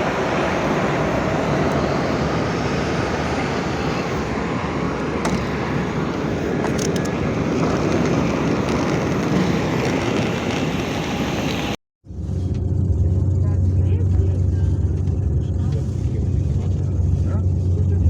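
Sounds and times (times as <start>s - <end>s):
airliner engine and airflow noise: 0.0s - 18.0s.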